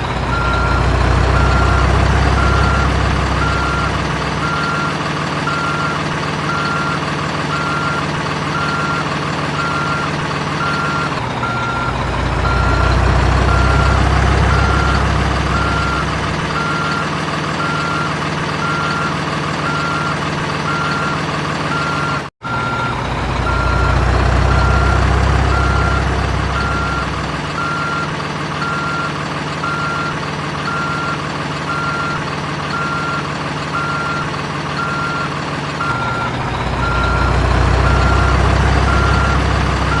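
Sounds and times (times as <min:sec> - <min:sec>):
simulated diesel engine: 0:00.0 - 0:40.0
warning beeps: 0:00.3 - 0:09.0, 0:09.6 - 0:33.2, 0:33.8 - 0:40.0.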